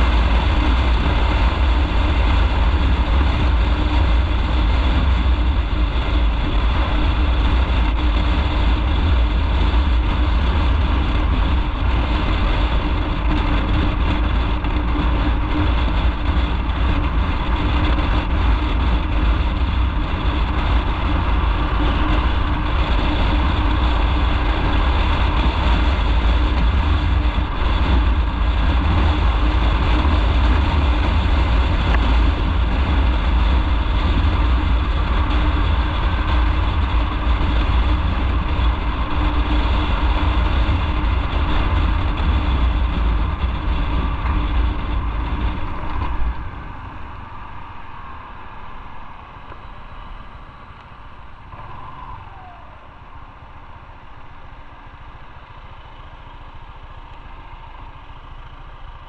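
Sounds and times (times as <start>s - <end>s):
motorcycle engine rumbling: 0.0s - 59.0s.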